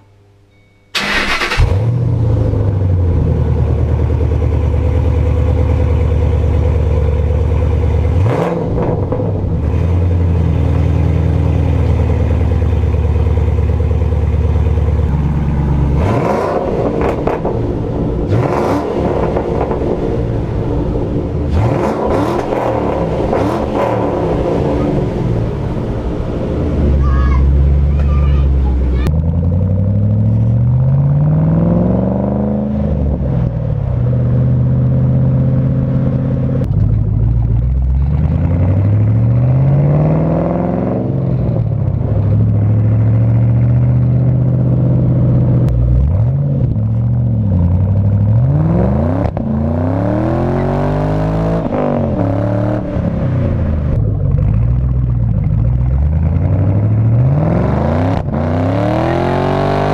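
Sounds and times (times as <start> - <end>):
car engine revving: 1.0 - 59.9.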